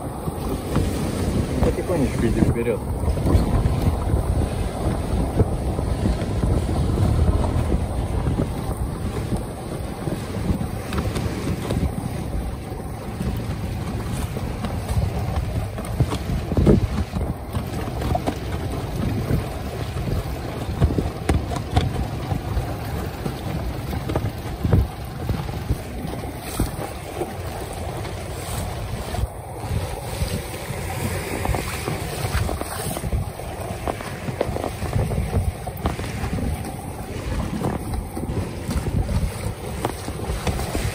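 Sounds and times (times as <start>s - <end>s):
waves washing against breakwater: 0.0s - 40.9s
wind buffeting microphone: 0.0s - 40.9s.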